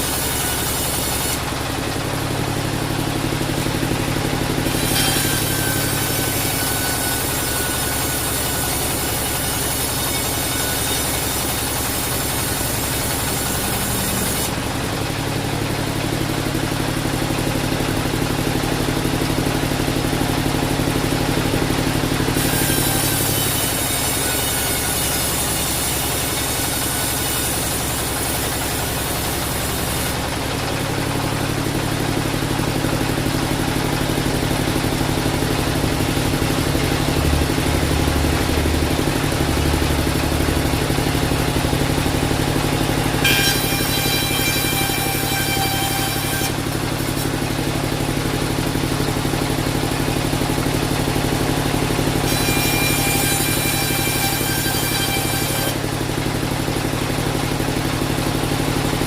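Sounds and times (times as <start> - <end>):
high saw whine: 0.0 - 56.4
sawmill machinery running: 0.0 - 59.0.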